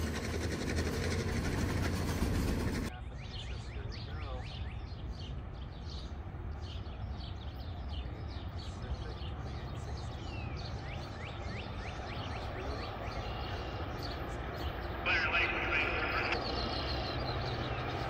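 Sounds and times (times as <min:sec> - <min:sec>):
small birds chirping: 0:01.0 - 0:18.0.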